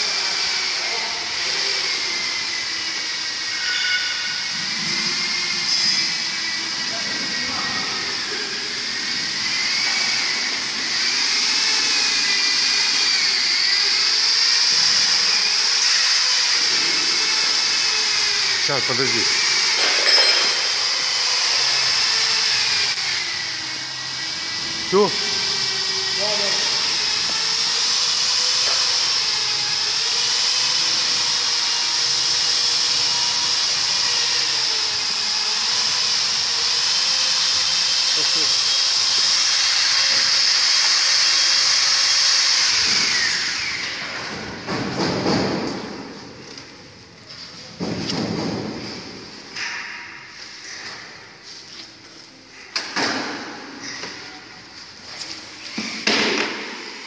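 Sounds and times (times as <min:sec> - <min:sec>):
power tool whining: 0:00.0 - 0:46.8, 0:52.8 - 0:57.0.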